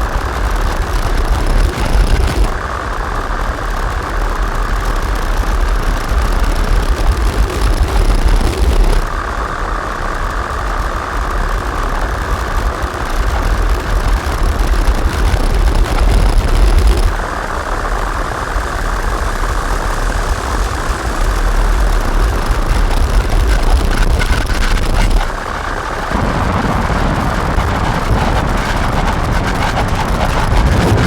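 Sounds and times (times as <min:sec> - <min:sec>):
distorted synthesizer drone: 0:00.0 - 0:31.0.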